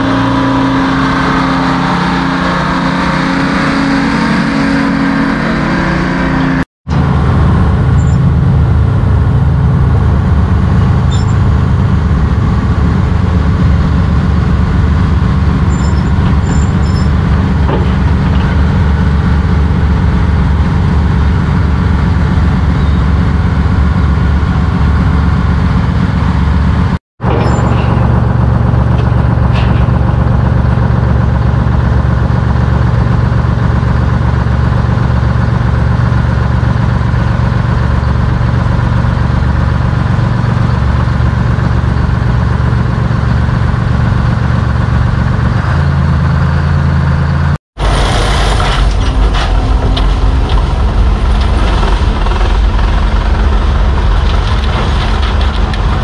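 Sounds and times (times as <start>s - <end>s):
heavy machinery engines: 0.0s - 56.0s
heavy truck engine running: 0.0s - 56.0s.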